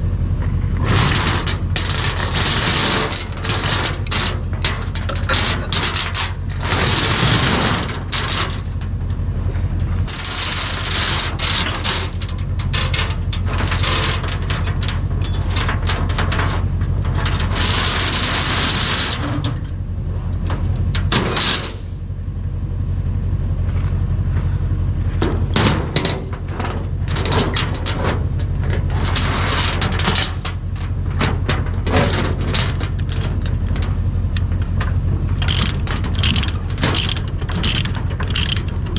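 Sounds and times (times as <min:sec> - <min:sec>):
engine running: 0:00.0 - 0:38.9
clanks: 0:00.4 - 0:22.0, 0:25.1 - 0:38.9.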